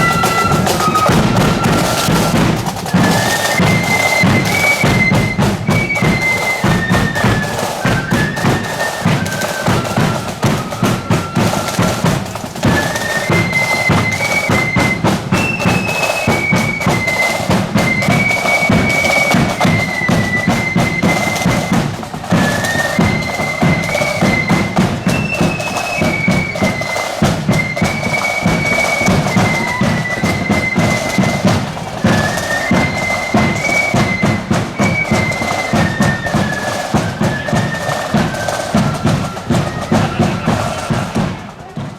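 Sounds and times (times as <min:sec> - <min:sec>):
high flute melody: 0:00.0 - 0:41.6
snare and bass drums beat: 0:00.0 - 0:41.9.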